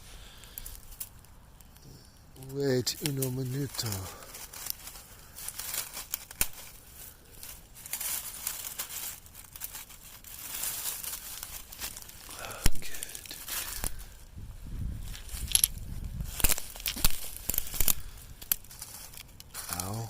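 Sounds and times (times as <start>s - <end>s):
footsteps through vegetation: 2.4s - 20.0s.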